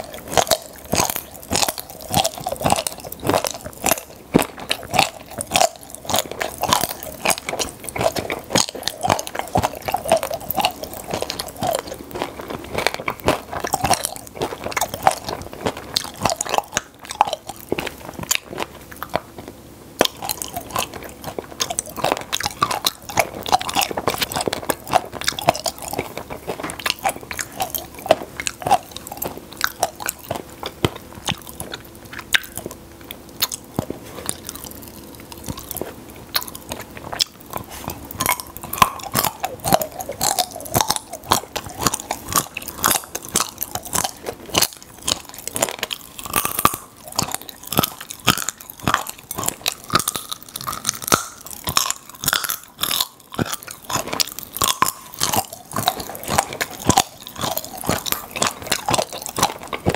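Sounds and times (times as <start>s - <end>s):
chewing popping candy: 0.0s - 59.9s.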